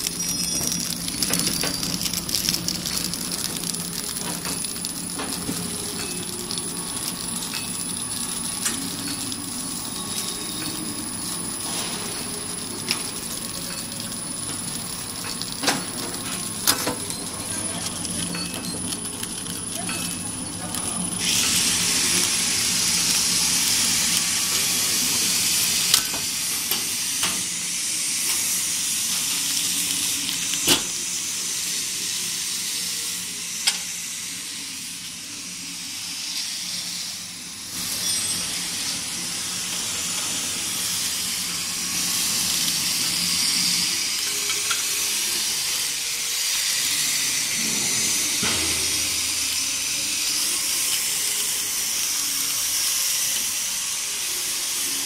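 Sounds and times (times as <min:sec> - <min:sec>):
machine hiss: 0:03.7 - 0:17.8, 0:21.0 - 0:55.0.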